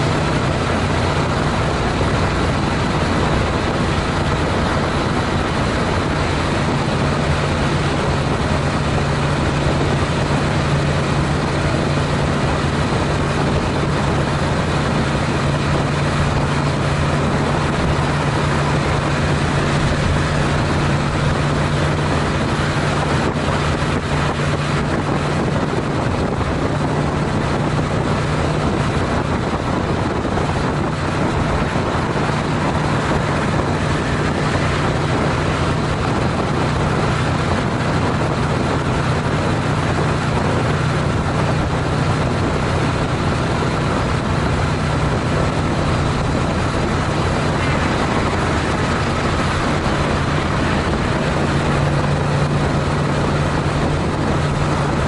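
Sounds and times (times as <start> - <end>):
motorcycle engine droning: 0.0 - 55.0
wind and road noise: 0.0 - 55.0.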